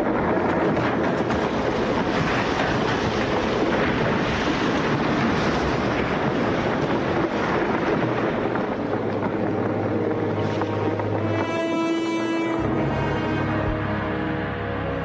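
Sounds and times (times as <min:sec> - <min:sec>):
stone tower collapsing crash: 0:00.0 - 0:13.5.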